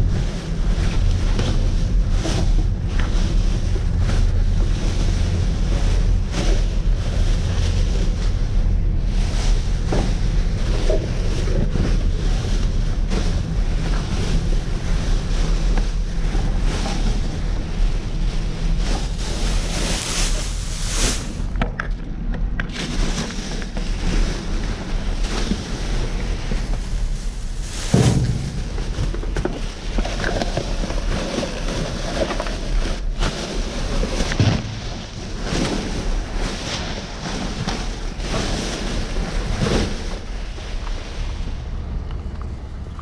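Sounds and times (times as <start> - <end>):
plastic bags rustling: 0.0 - 21.7, 22.7 - 41.7.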